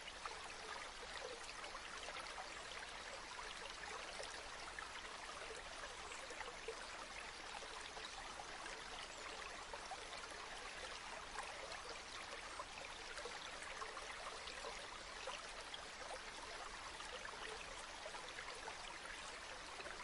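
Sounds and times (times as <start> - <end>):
river water babbling: 0.0 - 20.0.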